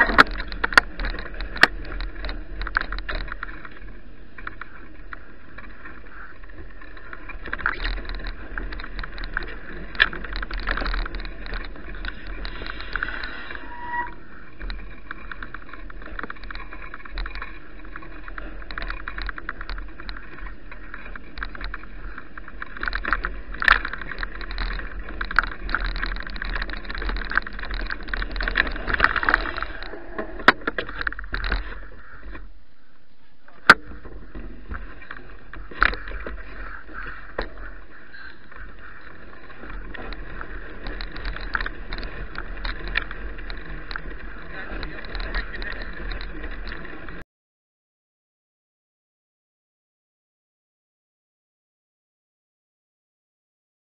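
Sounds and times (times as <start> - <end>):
bicycle rattling and clicking: 0.0 - 32.9, 33.5 - 47.2.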